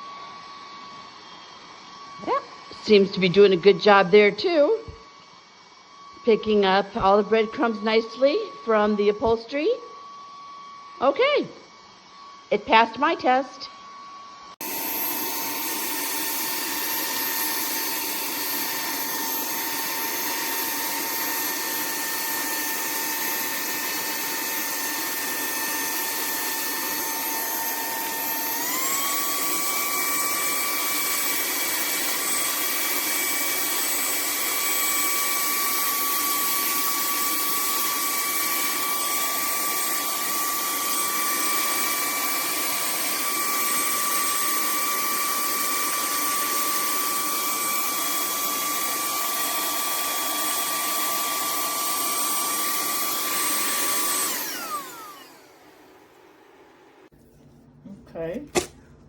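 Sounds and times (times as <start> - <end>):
handheld vacuum cleaner running: 0.0 - 57.1.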